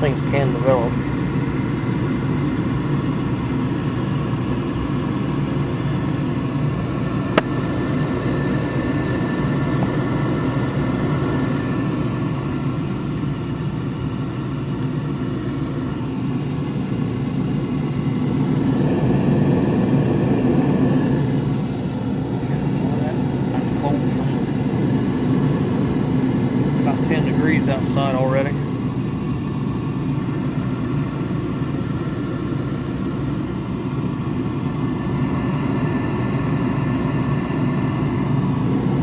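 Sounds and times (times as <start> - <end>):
oil burner humming: 0.0 - 39.0.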